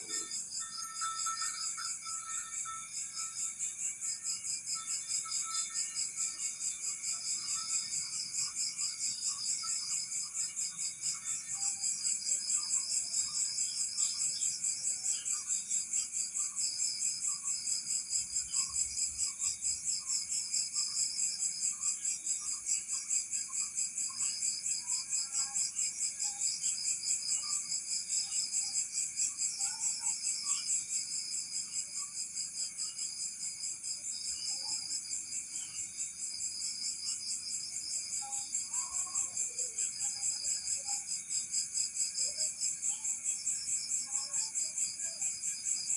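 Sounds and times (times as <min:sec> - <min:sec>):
insect chorus trilling: 0:00.0 - 0:45.9.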